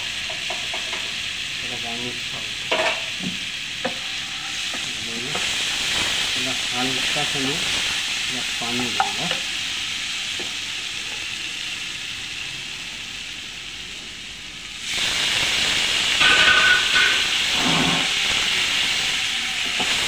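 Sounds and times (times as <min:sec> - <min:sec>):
masala sizzling in a frying pan: 0:00.0 - 0:20.0
steamy hiss of water in pan: 0:00.0 - 0:20.0.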